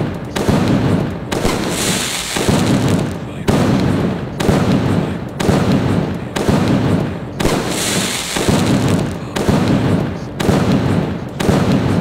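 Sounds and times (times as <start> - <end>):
crackling fireworks stars: 0.0 - 12.0
fireworks bangs: 0.0 - 12.0.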